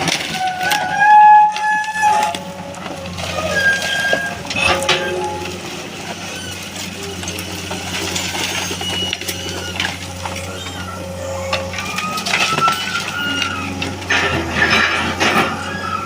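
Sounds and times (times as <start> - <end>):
diesel engine humming: 0.0 - 16.0
high squeaks and clicks: 0.3 - 16.0.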